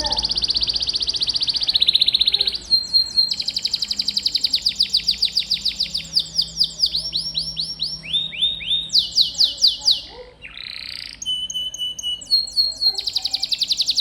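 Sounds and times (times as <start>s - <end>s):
canary trilling: 0.0s - 14.0s.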